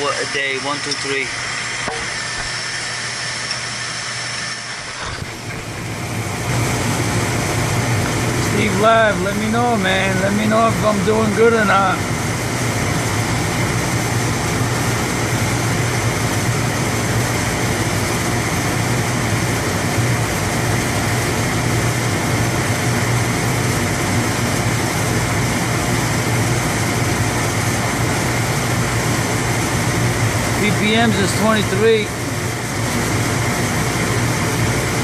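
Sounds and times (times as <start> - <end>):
low equipment hum: 0.0 - 35.0.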